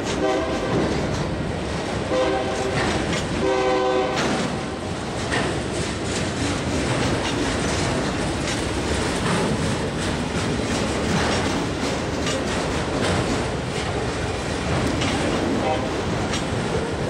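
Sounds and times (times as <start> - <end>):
steel wheels rumbling on rail: 0.0 - 17.0
wheels clacking and rattling: 0.0 - 17.0.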